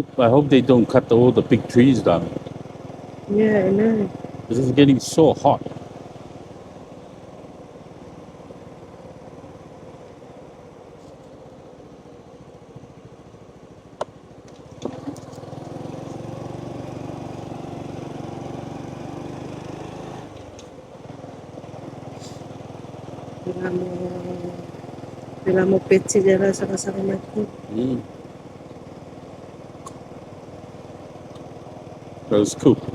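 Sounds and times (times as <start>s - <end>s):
motorbike engine running: 0.0s - 32.9s.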